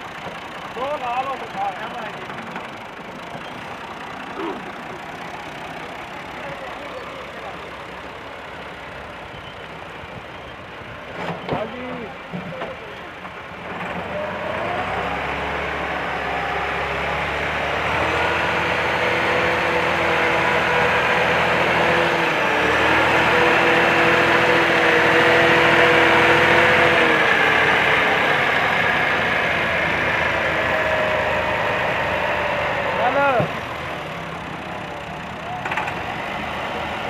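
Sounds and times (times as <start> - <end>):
tractor diesel engine revving: 0.0 - 37.0.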